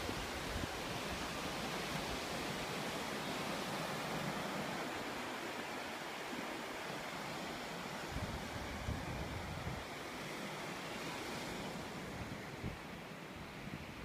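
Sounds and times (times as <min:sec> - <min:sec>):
ocean surf washing: 0:00.0 - 0:14.0.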